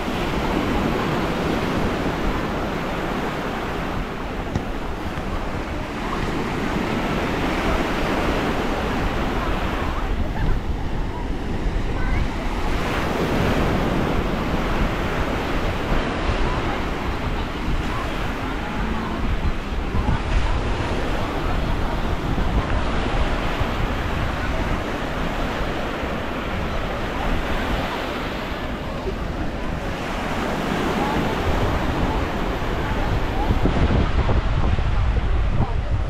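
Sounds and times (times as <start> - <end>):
small waves on sandy beach: 0.0 - 36.0
wind buffeting microphone: 0.0 - 36.0.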